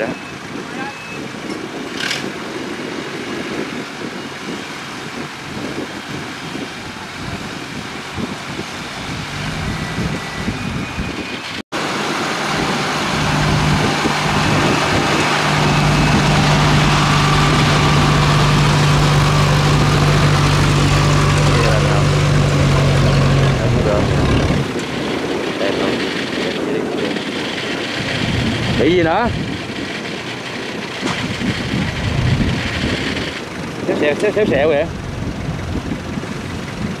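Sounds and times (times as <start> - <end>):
diesel engine running: 5.3 - 37.0.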